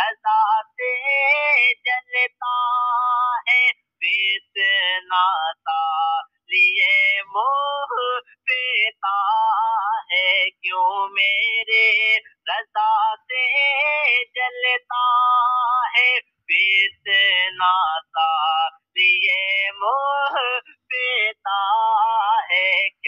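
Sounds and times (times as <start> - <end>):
processed voice singing: 0.0 - 23.0.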